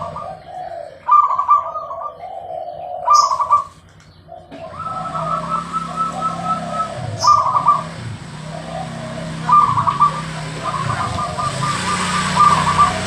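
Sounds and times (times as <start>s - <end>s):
dove cooing in trilled phrases: 0.0s - 13.0s.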